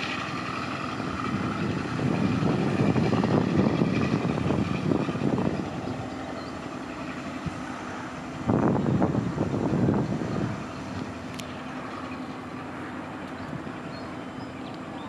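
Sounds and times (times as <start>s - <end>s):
diesel train engine rumble: 0.0s - 15.0s.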